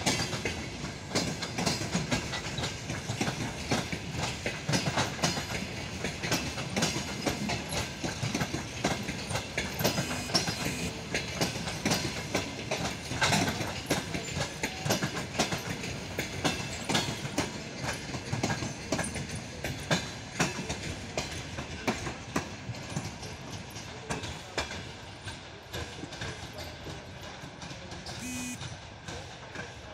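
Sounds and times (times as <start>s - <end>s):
train wheels clattering over rail joints: 0.0s - 28.2s.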